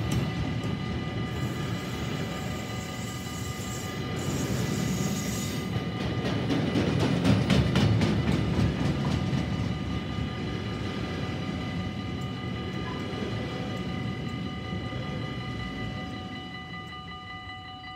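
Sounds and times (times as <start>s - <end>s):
train wagons rolling on rails: 0.0s - 17.9s.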